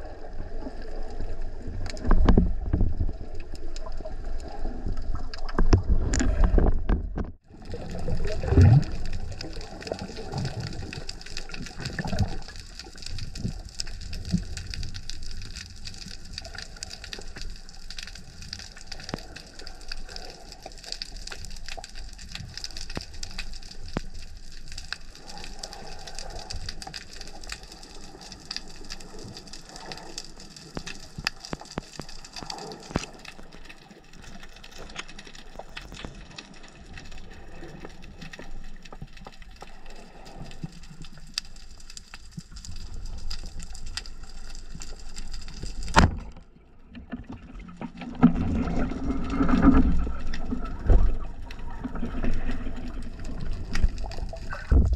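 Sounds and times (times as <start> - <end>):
low churning of water: 0.0 - 54.9
underwater crackling clicks: 1.8 - 54.9.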